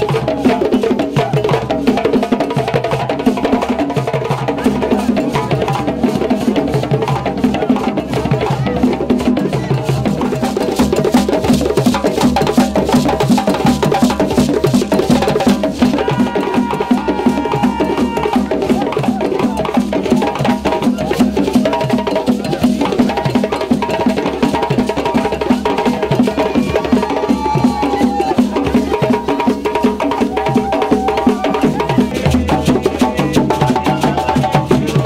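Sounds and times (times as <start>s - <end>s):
djembe drums played by hand: 0.0s - 35.0s.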